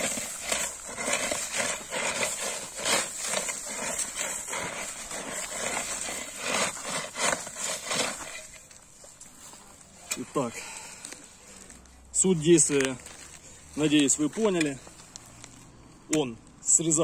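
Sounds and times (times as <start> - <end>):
weeding blade scraping dry soil: 0.0 - 10.5, 11.2 - 15.5.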